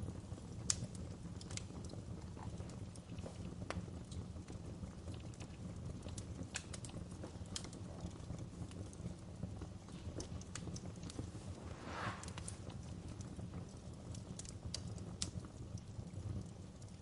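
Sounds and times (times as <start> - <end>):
low rumble of burning fire: 0.0 - 17.0
wood fire crackling and popping: 0.0 - 17.0.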